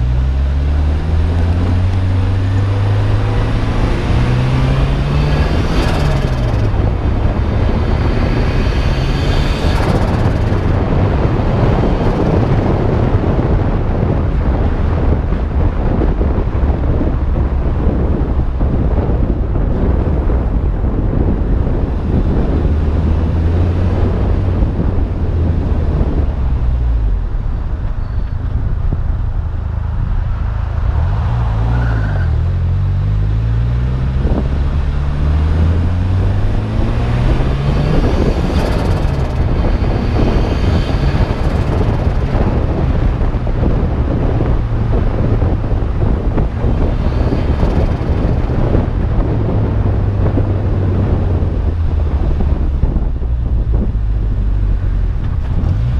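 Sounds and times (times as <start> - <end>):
car engine cruising: 0.0 - 55.9
wind noise on microphone: 0.0 - 55.9.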